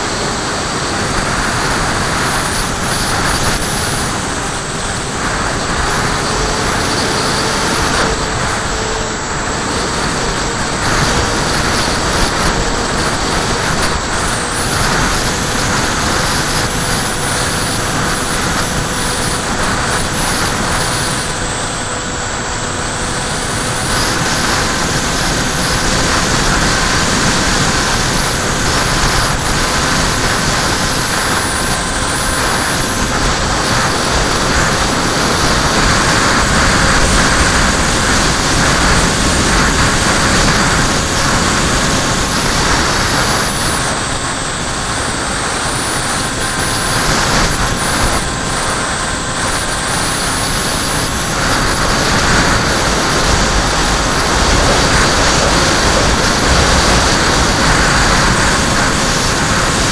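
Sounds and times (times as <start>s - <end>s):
electric motor and propeller whine: 0.0s - 59.9s
wind buffeting camera: 0.0s - 59.9s.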